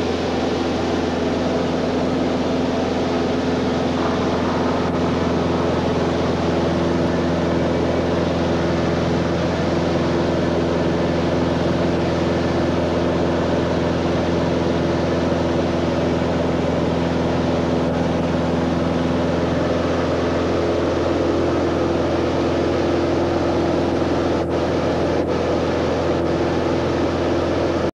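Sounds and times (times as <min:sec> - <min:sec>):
propeller plane engine droning: 0:00.0 - 0:27.9
rush of air noise: 0:00.0 - 0:27.9.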